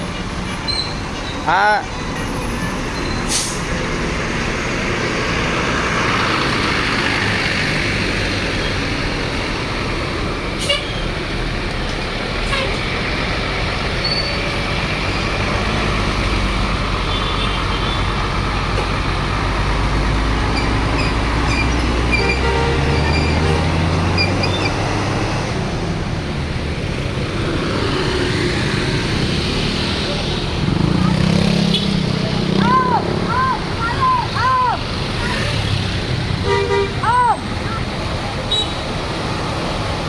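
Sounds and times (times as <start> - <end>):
bus engines running: 0.0 - 40.0
traffic noise: 0.0 - 40.0.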